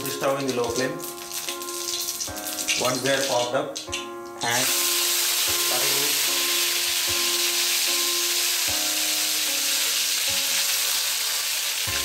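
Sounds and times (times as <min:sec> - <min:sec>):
leaves sizzling in hot oil: 0:00.0 - 0:03.8, 0:04.4 - 0:12.0.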